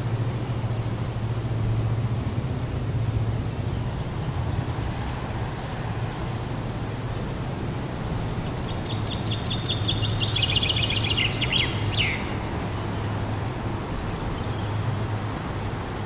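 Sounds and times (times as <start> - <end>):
low background rumble: 0.0 - 16.0
songbird singing: 0.0 - 16.0.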